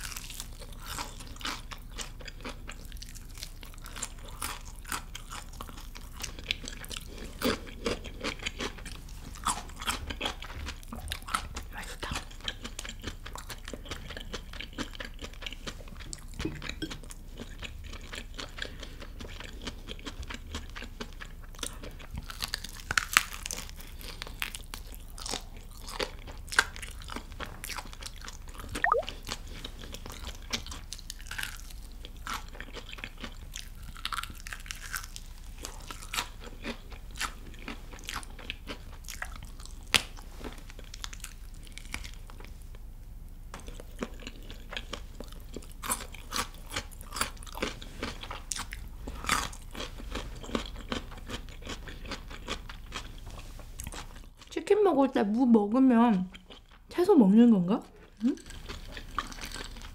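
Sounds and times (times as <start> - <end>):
crunching and chewing fried chicken: 0.0 - 54.6, 56.1 - 57.0, 57.8 - 59.9.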